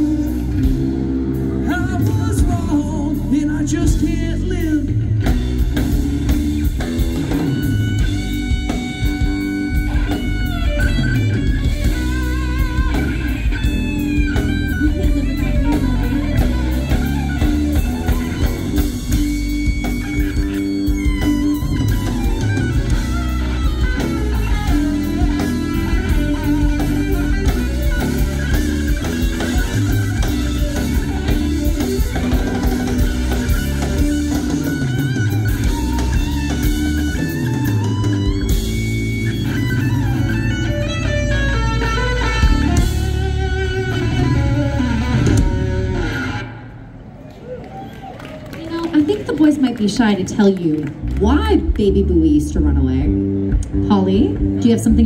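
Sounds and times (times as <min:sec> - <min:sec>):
drum kit: 0:00.0 - 0:46.6
bass guitar: 0:00.0 - 0:47.2, 0:49.4 - 0:55.0
electric guitar: 0:00.0 - 0:55.0.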